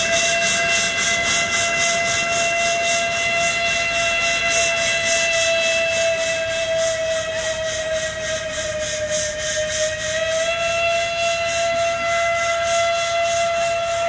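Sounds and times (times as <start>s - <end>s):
steam venting hiss: 0.0s - 14.0s
steam whistle: 0.0s - 14.0s.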